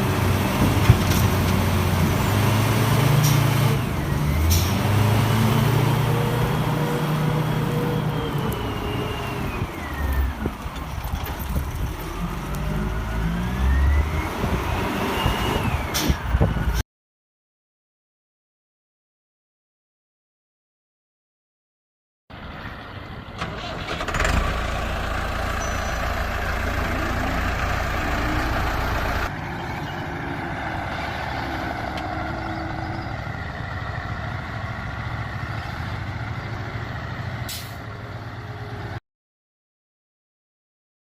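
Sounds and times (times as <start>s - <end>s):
truck engine droning: 0.0s - 16.8s, 22.3s - 39.0s.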